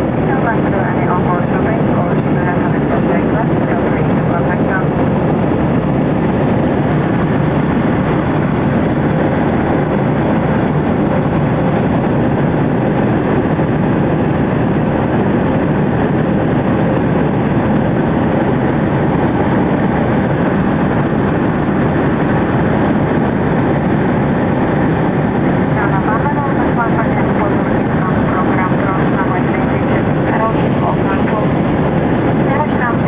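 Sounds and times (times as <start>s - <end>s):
jet engines in cabin: 0.0s - 33.0s
rushing air: 3.5s - 33.0s.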